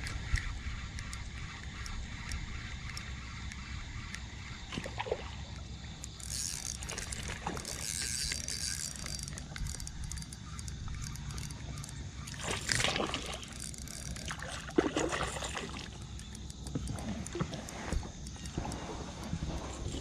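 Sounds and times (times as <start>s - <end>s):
fishing reel cranking: 0.0s - 4.7s, 5.6s - 17.4s
water lapping at hull: 0.0s - 20.0s.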